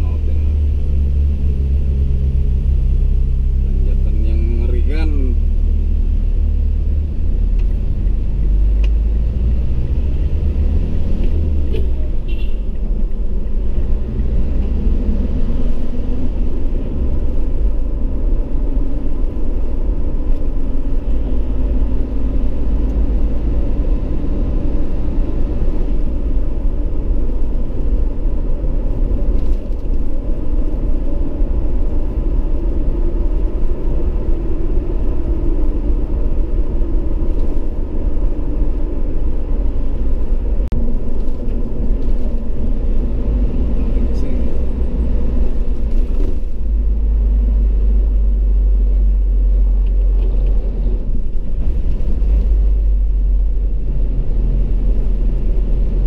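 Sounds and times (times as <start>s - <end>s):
engine and road noise in cabin: 0.0s - 56.0s.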